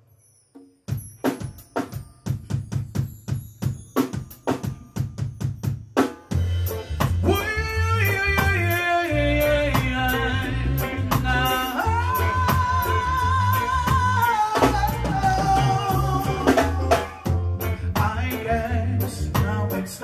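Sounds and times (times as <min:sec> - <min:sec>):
bass and melody instruments: 0:00.1 - 0:20.0
steady drum beat: 0:00.9 - 0:20.0.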